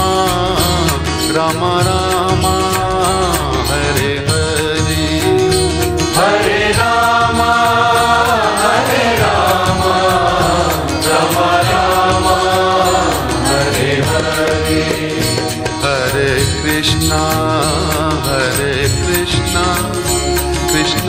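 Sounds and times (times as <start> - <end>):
devotional music accompaniment: 0.0 - 21.0.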